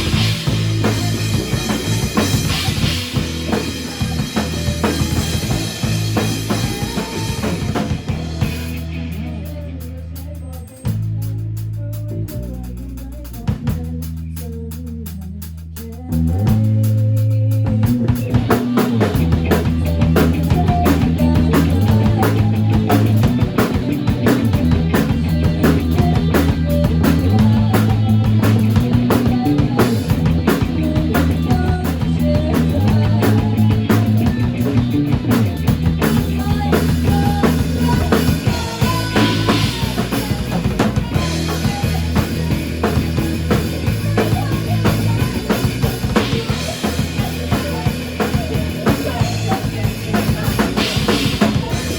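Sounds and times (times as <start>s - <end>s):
bass line: 0.0s - 51.9s
drum kit beat: 0.0s - 51.9s.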